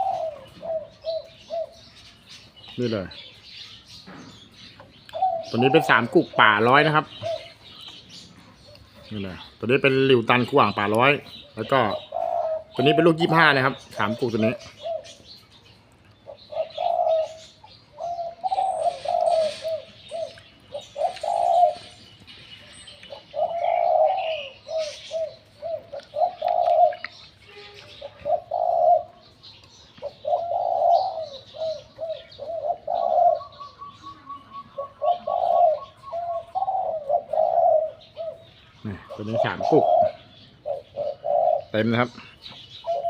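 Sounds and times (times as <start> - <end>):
dove cooing: 0.0 - 3.4, 4.3 - 15.4, 16.2 - 43.0
small birds chirping: 0.0 - 43.0.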